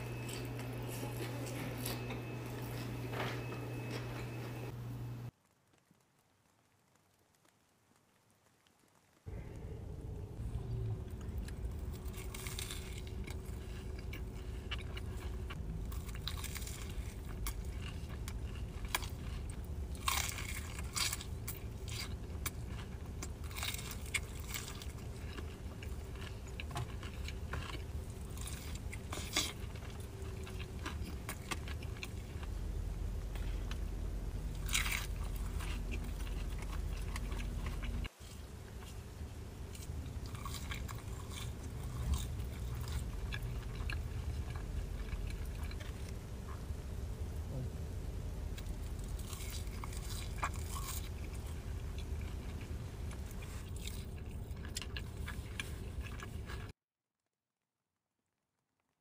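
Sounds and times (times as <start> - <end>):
crunchy bites and chewing: 0.0 - 4.7, 10.8 - 39.0, 39.7 - 46.8, 48.5 - 56.7
low hum: 0.0 - 5.3, 9.3 - 56.7.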